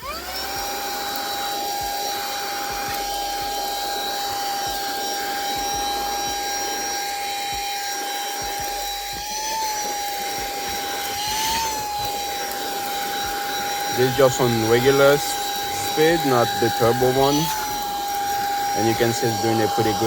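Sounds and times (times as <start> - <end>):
handheld vacuum motor whine: 0.0 - 20.0.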